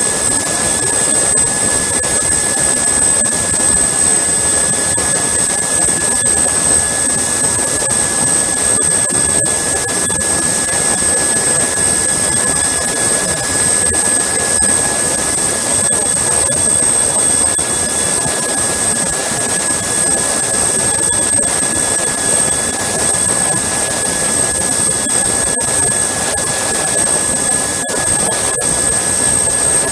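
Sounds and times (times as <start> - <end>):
turbine whine: 0.0 - 29.9.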